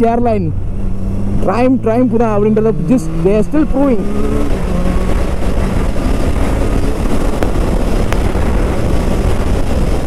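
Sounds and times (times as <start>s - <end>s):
wind rush on microphone: 0.0s - 10.0s
motorcycle engine running: 0.5s - 10.0s.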